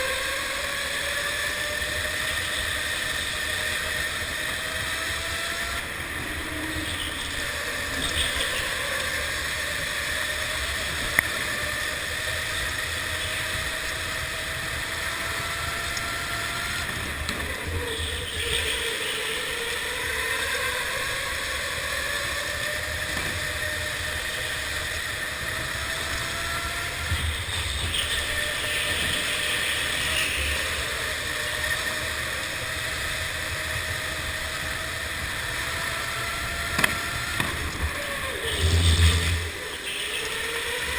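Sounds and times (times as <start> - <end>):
electric motor whining: 0.0 - 40.9.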